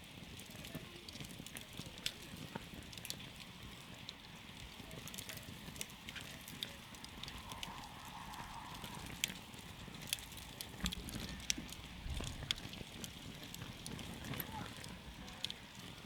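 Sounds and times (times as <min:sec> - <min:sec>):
campfire wood crackling and popping: 0:00.0 - 0:16.0
rush of flames: 0:00.0 - 0:16.0.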